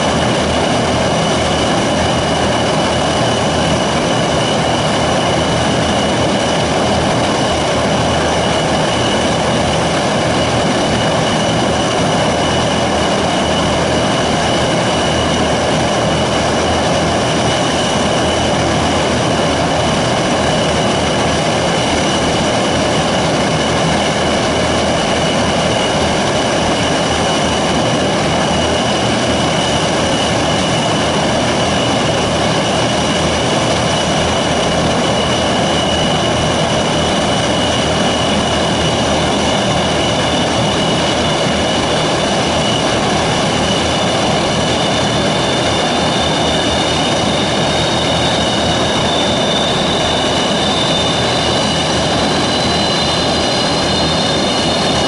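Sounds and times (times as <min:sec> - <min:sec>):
high engine whine: 0:00.0 - 0:55.0
turboprop engines roaring: 0:00.0 - 0:55.0.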